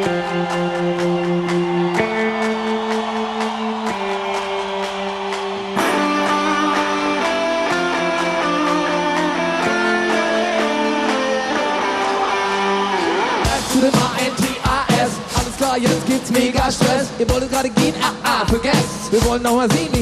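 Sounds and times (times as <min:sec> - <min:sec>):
guitar chords: 0:00.0 - 0:18.6.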